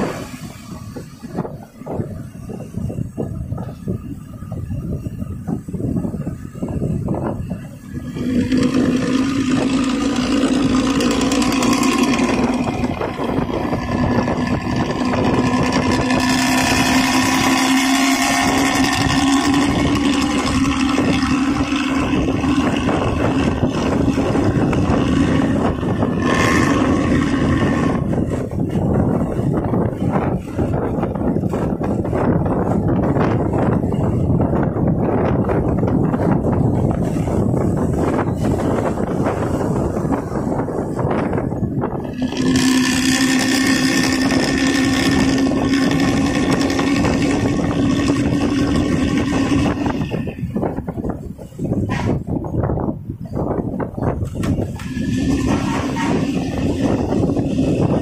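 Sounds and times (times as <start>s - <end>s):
low engine drone: 0.0s - 58.0s
vehicle road noise: 0.0s - 58.0s.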